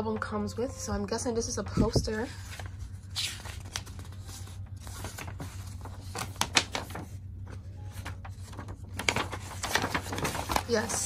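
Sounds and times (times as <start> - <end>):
paper rustling and crackling: 1.6 - 11.0.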